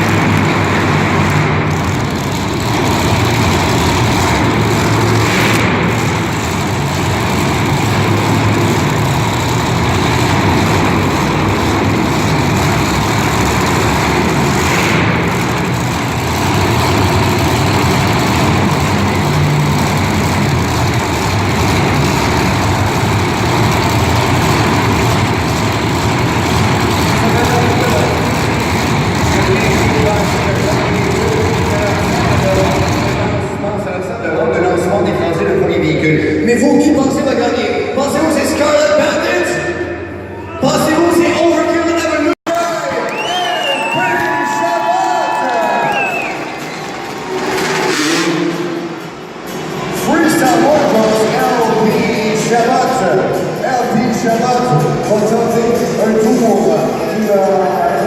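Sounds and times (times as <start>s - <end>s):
monster truck engines running: 0.0s - 58.0s.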